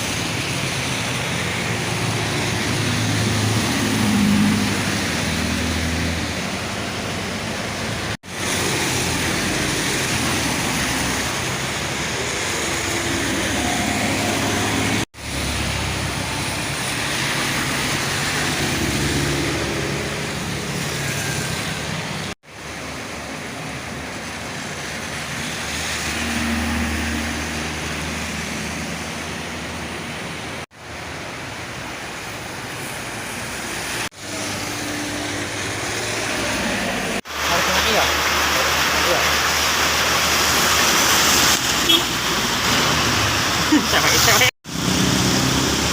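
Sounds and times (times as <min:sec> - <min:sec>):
heavy rain hissing: 0:00.0 - 0:45.9
vehicles passing on wet road: 0:00.0 - 0:45.9.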